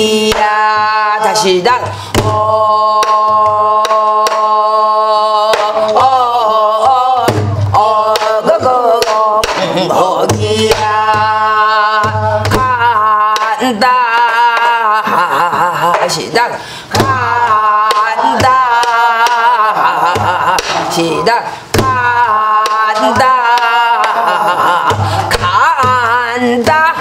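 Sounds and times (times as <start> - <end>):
woman singing folk song: 0.0 - 27.0.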